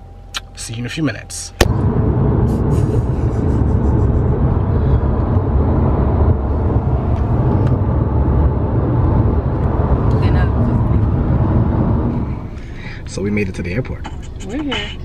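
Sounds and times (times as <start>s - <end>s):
road and tyre rumble inside car: 0.0s - 15.0s.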